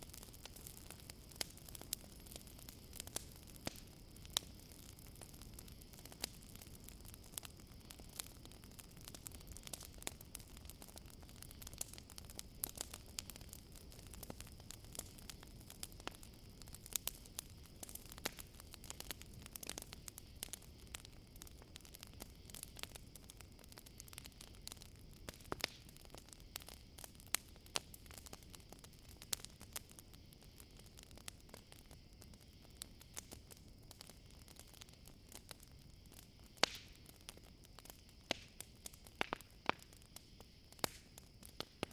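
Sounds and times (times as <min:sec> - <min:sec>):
campfire crackling and popping: 0:00.0 - 0:41.9
crickets chirring: 0:00.1 - 0:41.9.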